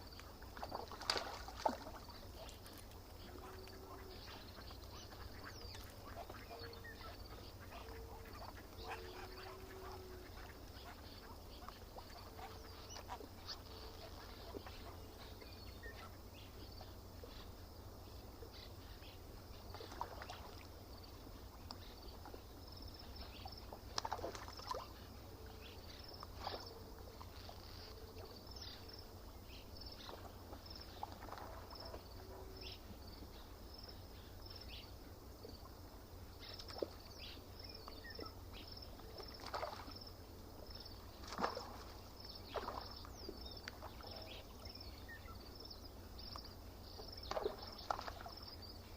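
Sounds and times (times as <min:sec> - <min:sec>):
water splashing and lapping: 0:00.0 - 0:17.5, 0:18.2 - 0:32.9, 0:35.4 - 0:48.9.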